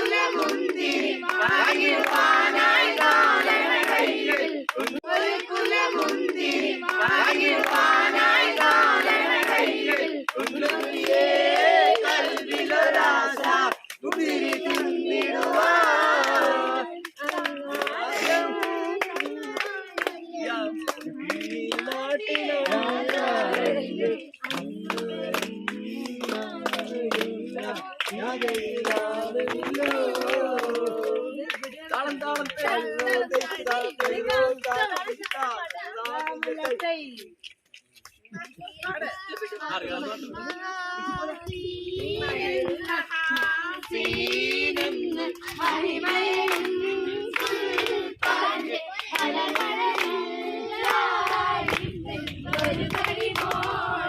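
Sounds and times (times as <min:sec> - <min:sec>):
people singing unaccompanied: 0:00.0 - 0:36.9, 0:38.3 - 0:54.0
people clapping in time: 0:00.0 - 0:54.0.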